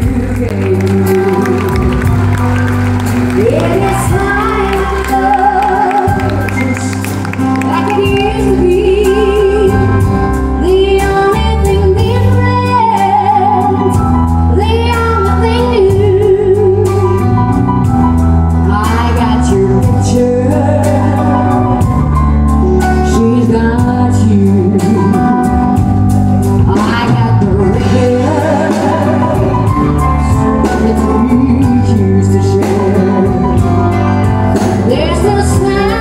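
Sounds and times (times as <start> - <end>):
woman singing into microphone: 0.0 - 2.2, 3.3 - 17.4, 18.6 - 22.0, 22.8 - 25.9, 26.5 - 36.0
bass: 0.0 - 36.0
keyboard: 0.0 - 36.0.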